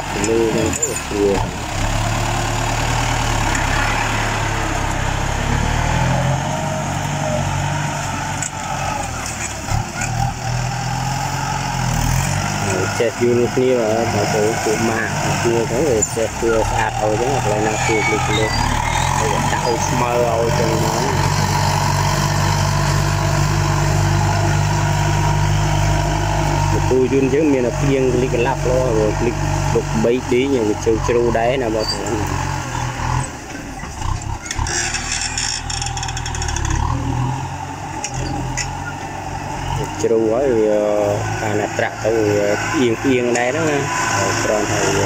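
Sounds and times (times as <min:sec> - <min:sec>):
tractor engine under load: 0:00.0 - 0:45.0.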